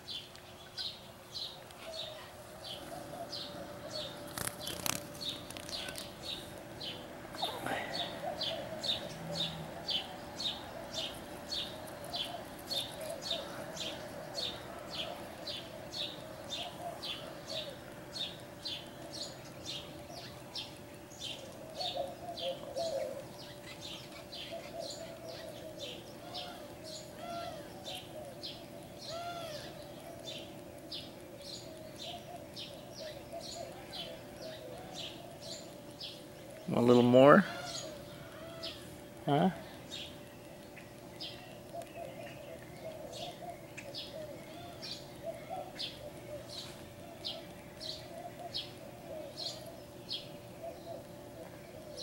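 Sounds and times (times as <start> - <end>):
softer lower bird calls: 0.0 - 52.0.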